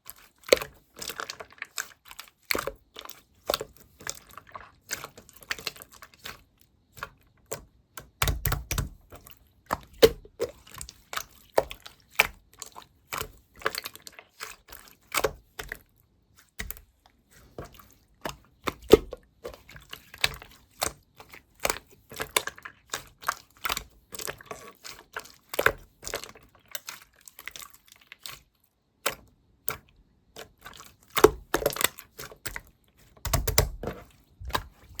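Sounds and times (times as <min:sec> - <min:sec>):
slime squelching: 0:00.0 - 0:35.0.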